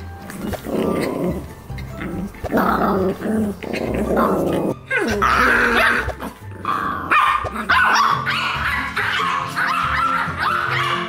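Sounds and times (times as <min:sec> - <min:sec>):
light background music: 0:00.0 - 0:11.0
small dogs yapping: 0:00.3 - 0:11.0.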